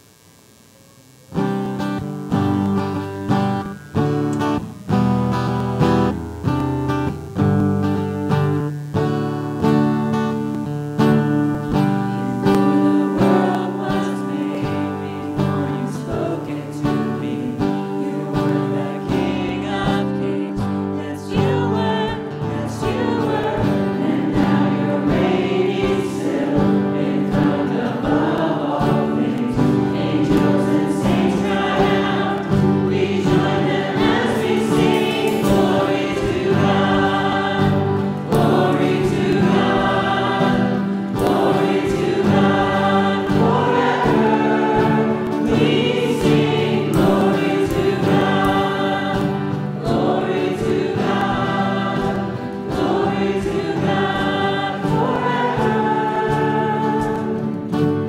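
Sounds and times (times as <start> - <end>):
worship band playing chords: 1.4 - 58.0
voices singing: 10.4 - 58.0.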